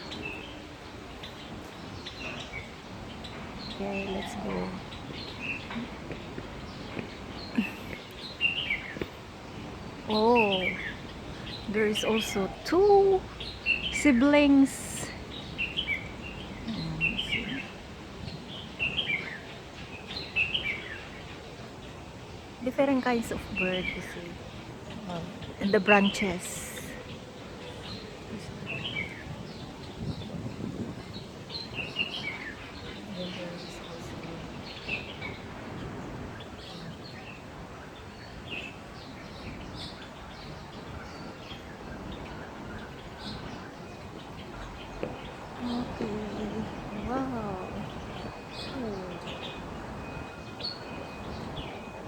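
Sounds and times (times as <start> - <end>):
background hiss: 0.0 - 52.0
birds chirping: 0.0 - 52.0.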